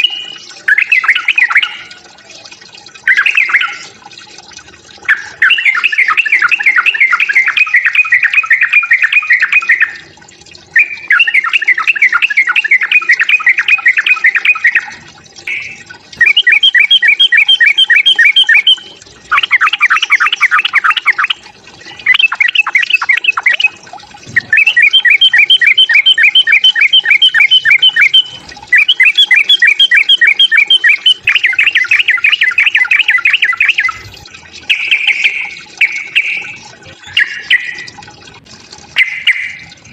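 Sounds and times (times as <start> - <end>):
bird fast chattering song: 0.0 - 2.0, 3.0 - 4.0, 5.1 - 10.1, 10.7 - 38.0, 38.9 - 39.7.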